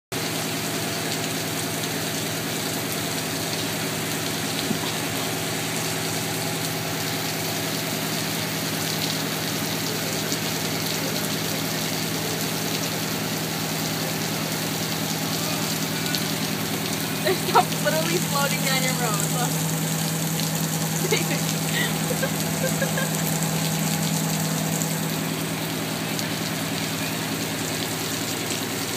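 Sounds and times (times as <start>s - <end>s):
engine idling: 0.2s - 28.9s
heavy rain falling: 0.2s - 28.9s.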